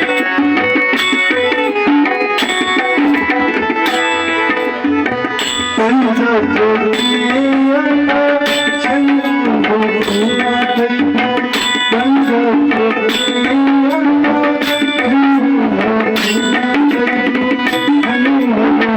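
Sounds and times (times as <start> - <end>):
tabla playing: 0.0 - 18.9.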